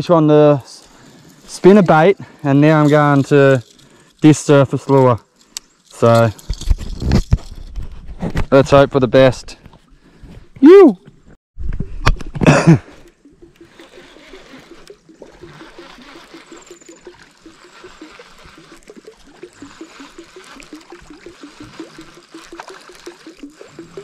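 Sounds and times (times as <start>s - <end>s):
water gurgling and trickling: 0.8s - 6.2s, 9.2s - 24.0s.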